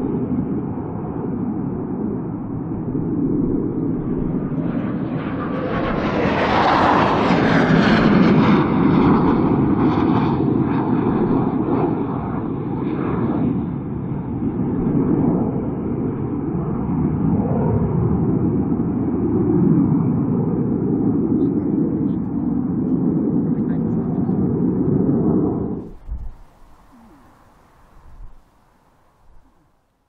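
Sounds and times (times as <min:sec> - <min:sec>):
jet engine passing: 0:00.0 - 0:29.8.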